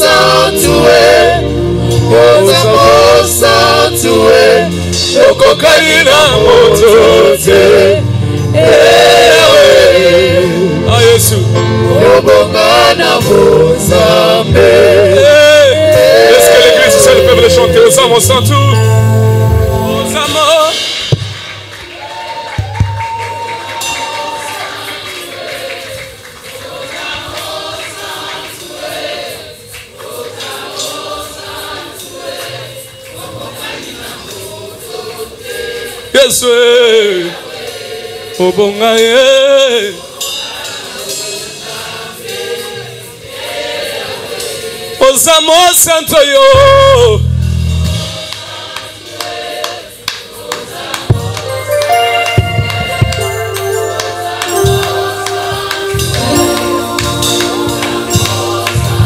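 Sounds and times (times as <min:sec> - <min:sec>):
voices singing together: 0:00.0 - 0:21.0, 0:23.6 - 0:47.1, 0:47.8 - 0:59.0
keyboard-led band: 0:00.0 - 0:59.0.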